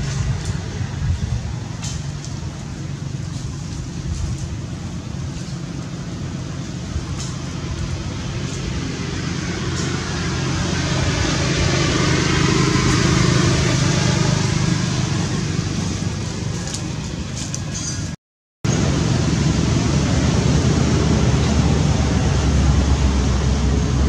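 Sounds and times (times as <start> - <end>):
low rumble and hiss of traffic: 0.0 - 24.0.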